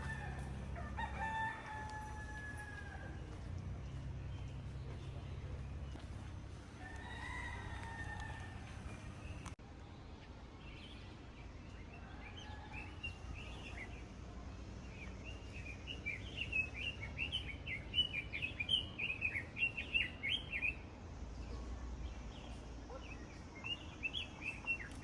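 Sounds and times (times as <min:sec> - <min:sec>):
low background rumble: 0:00.0 - 0:24.0
small birds chirping: 0:00.0 - 0:25.0.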